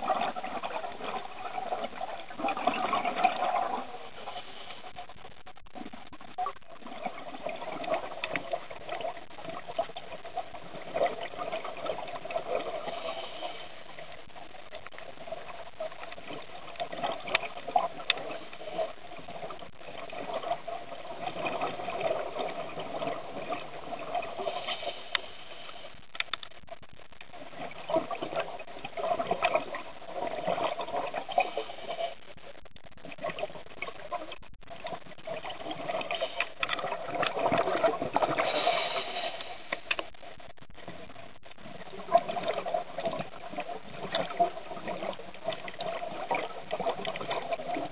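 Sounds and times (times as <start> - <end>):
small underwater clicks: 0.0 - 47.9
underwater rushing: 0.0 - 47.9.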